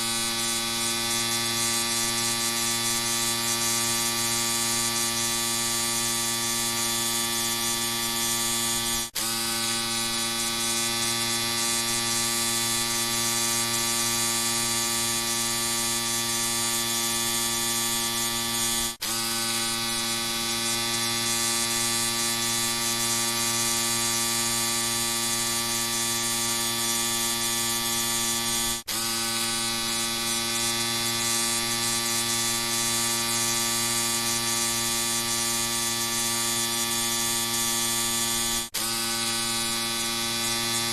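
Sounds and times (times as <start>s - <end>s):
electric shaver buzzing: 0.0s - 40.9s.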